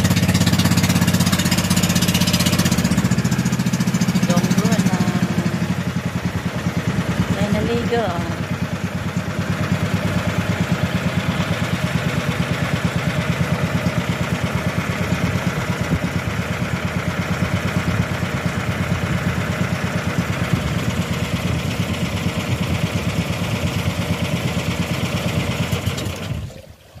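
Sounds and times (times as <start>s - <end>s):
boat engine chugging: 0.0s - 26.6s.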